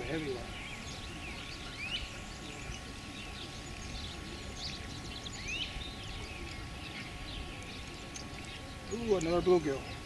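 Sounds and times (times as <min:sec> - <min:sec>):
birds chirping and singing: 0:00.0 - 0:10.0
low outdoor background noise: 0:00.0 - 0:10.0.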